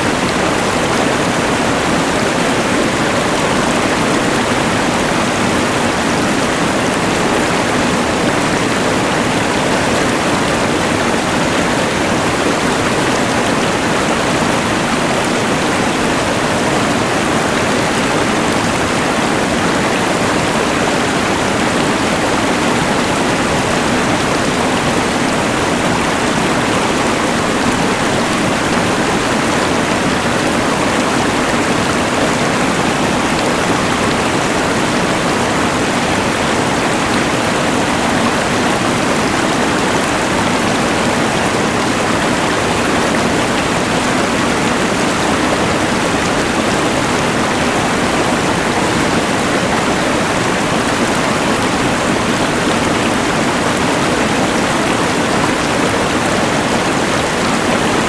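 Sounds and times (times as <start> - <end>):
rushing river: 0.0 - 58.0.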